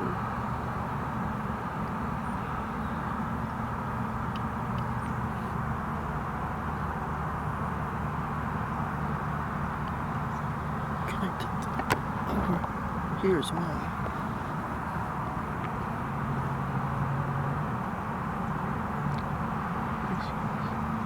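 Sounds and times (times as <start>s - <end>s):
car engine hum: 0.0s - 21.0s
road noise rushing: 0.0s - 21.0s.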